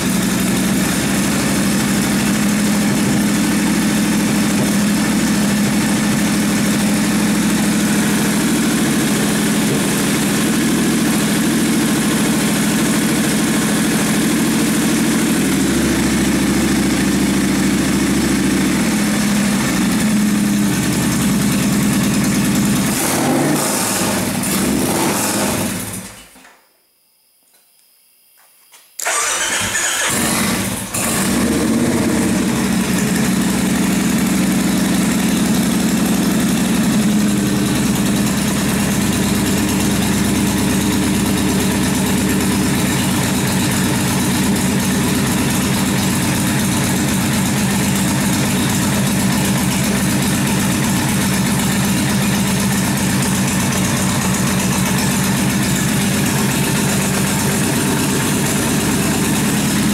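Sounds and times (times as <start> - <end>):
motorcycle engine starting and idling: 0.0 - 26.5, 29.0 - 59.9.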